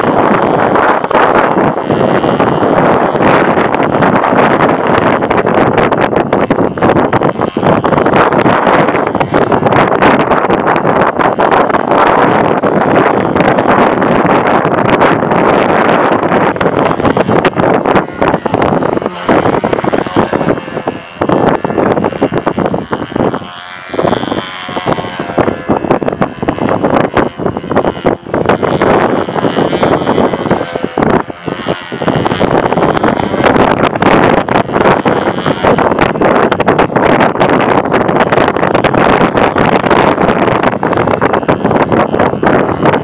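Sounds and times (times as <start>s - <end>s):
model aircraft engine whine: 0.0s - 43.0s
wind buffeting microphone: 0.0s - 43.0s.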